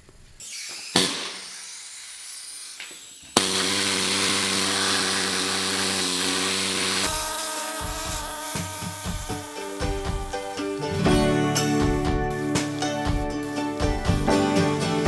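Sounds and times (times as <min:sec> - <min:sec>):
needle scaler hammering buzz: 0:00.4 - 0:15.0.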